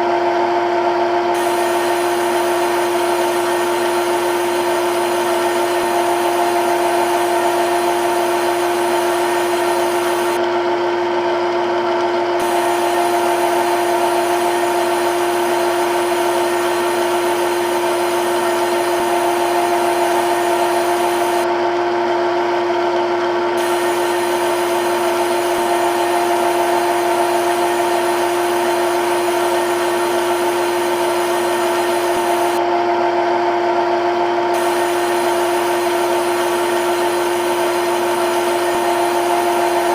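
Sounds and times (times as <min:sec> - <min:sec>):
lathe spindle whine: 0:01.3 - 0:11.2, 0:12.0 - 0:21.7, 0:23.0 - 0:39.9.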